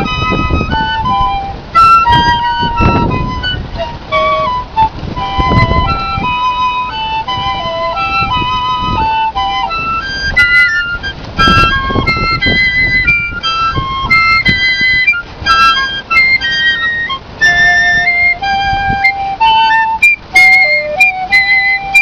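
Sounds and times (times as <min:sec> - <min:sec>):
piccolo duet: 0:00.0 - 0:22.0.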